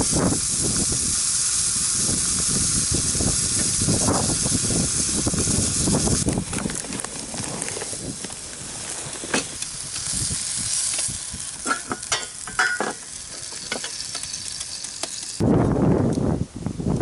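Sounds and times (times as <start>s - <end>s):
steak sizzling in a skillet: 0.0s - 6.4s, 8.0s - 15.4s.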